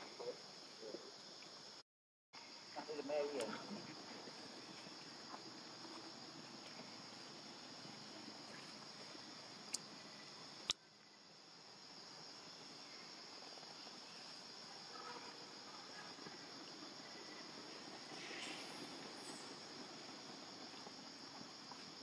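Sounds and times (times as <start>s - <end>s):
high-pitched insect chorus: 0.0s - 1.8s, 2.4s - 22.0s.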